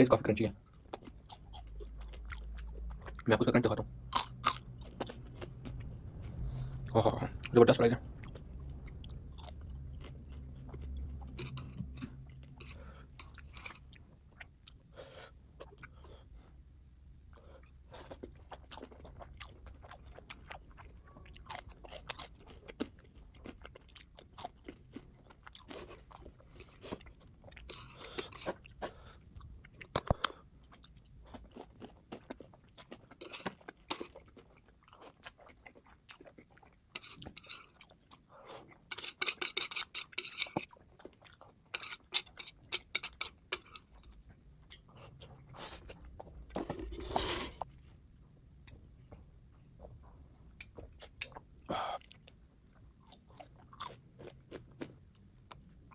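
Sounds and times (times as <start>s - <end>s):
chewing crispy food: 0.5s - 16.5s, 17.3s - 48.0s, 49.5s - 55.9s.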